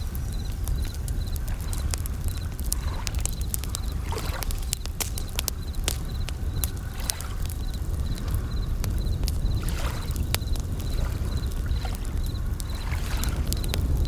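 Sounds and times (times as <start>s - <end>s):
campfire crackling and popping: 0.0s - 14.0s
crickets chirping: 0.0s - 14.0s
low rumble of waves: 0.0s - 14.0s.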